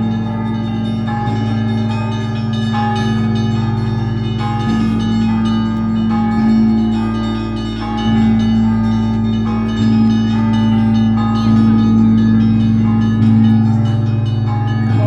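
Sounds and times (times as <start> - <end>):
deep large bell strokes: 0.0 - 15.0
smaller higher bells ringing: 0.0 - 15.0.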